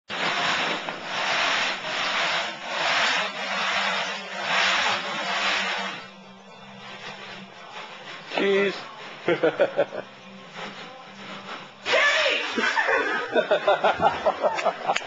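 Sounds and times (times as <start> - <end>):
hand scraping strokes: 0.1 - 15.0.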